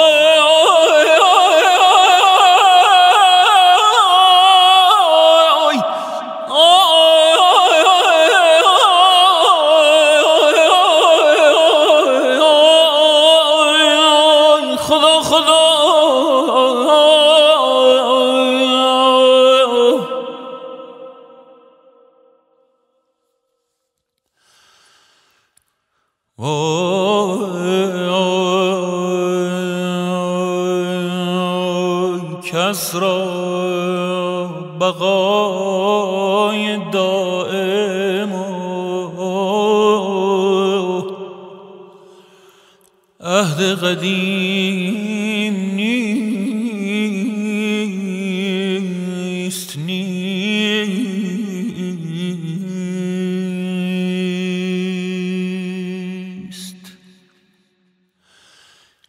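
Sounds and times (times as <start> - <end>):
man chanting: 0.0 - 22.3, 26.4 - 42.1, 43.2 - 57.8.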